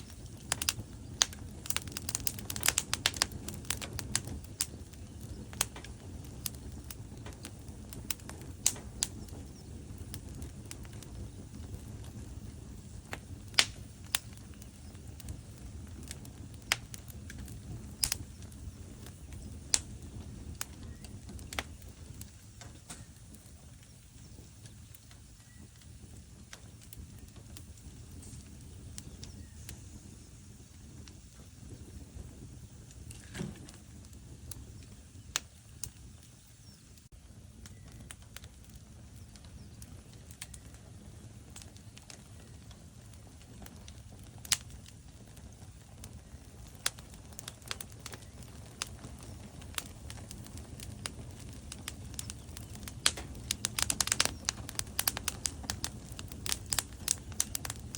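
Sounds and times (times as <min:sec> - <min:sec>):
logs crackling and popping in fireplace: 0:00.0 - 0:57.9
low rumble of flames: 0:00.0 - 0:57.9.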